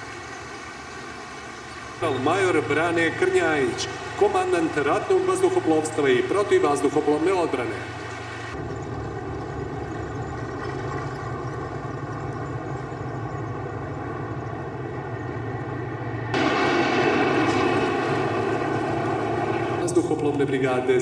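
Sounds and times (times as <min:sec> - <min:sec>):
aircraft engine drone overhead: 0:00.0 - 0:21.0.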